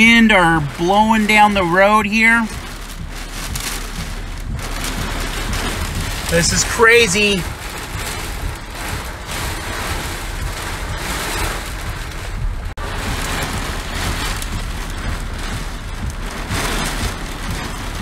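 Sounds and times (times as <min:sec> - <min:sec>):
strong gusting wind: 0:00.0 - 0:18.0
torrential rain pounding: 0:00.0 - 0:18.0.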